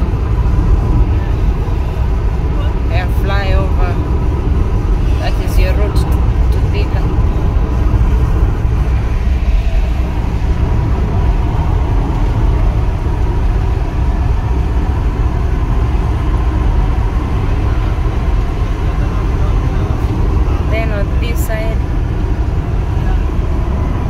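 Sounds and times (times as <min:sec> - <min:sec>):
car interior road rumble: 0:00.0 - 0:24.0.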